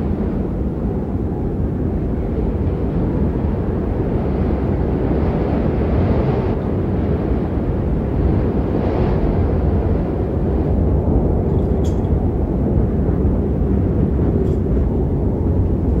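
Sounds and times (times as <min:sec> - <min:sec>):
strong wind blowing: 0:00.0 - 0:16.0.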